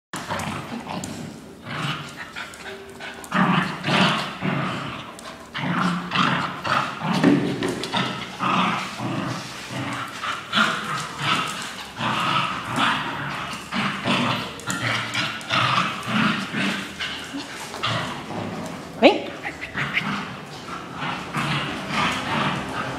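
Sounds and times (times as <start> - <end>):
small dogs play-fighting vocalizing: 0.2 - 22.9.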